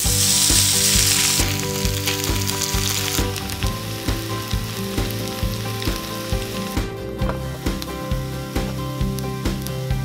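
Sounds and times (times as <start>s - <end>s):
background music with steady beat: 0.0s - 10.0s
potato sizzling in oil: 0.0s - 10.0s.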